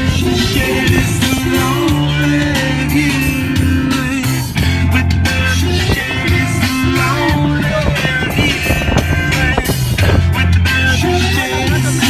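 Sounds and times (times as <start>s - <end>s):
rock music with guitar and bass: 0.0s - 12.0s.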